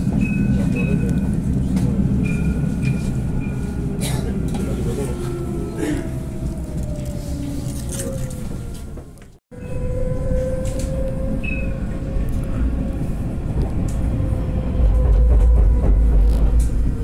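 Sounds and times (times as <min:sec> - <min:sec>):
low rumble of tram: 0:00.0 - 0:17.0
tram electric whine: 0:00.0 - 0:17.0.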